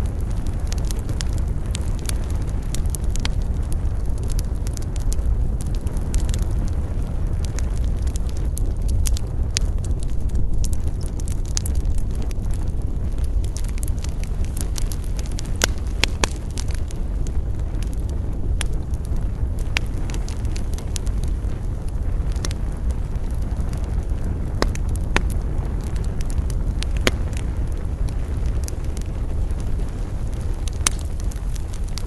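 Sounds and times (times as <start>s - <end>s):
campfire crackling and popping: 0.0s - 32.0s
low rumble of wind: 0.0s - 32.0s.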